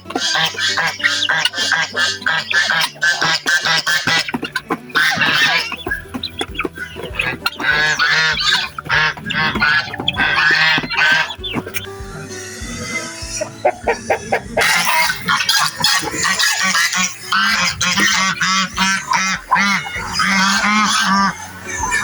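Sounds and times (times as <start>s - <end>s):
chicks chirping and cheeping: 0.0s - 22.0s.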